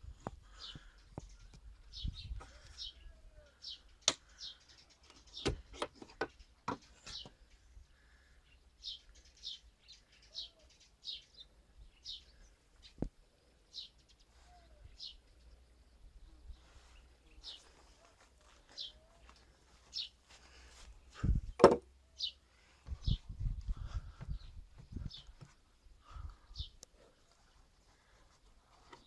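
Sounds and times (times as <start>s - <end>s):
small bird chirping: 0.5s - 20.3s, 22.1s - 28.1s.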